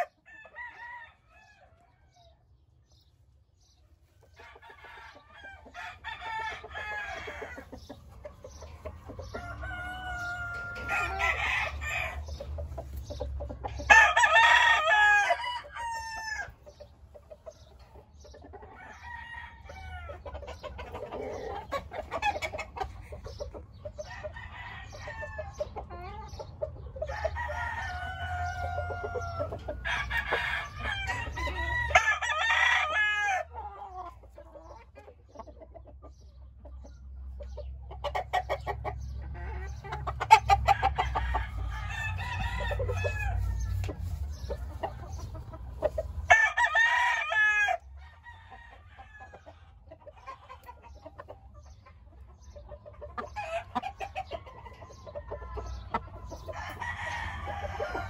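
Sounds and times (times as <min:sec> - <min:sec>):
roosters crowing: 0:00.0 - 0:02.4, 0:04.2 - 0:16.9, 0:17.6 - 0:26.4, 0:27.0 - 0:34.3, 0:38.0 - 0:50.6, 0:53.2 - 0:58.0
chickens clucking: 0:00.0 - 0:58.0.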